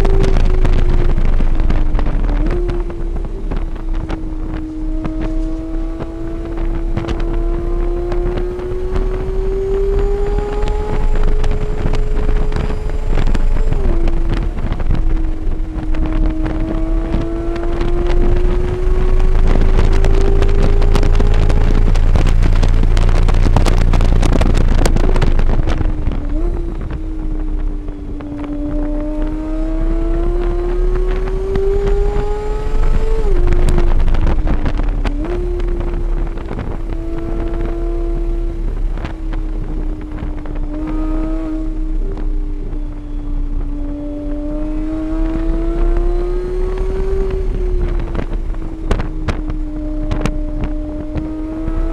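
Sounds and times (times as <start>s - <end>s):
race car engine accelerating: 0.0s - 51.9s
wind rush over microphone: 0.0s - 51.9s.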